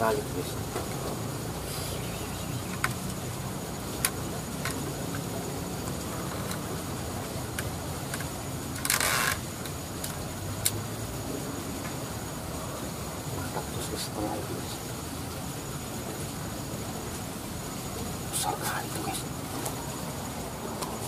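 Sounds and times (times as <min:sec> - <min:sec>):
hissing rustle: 0:00.0 - 0:21.0.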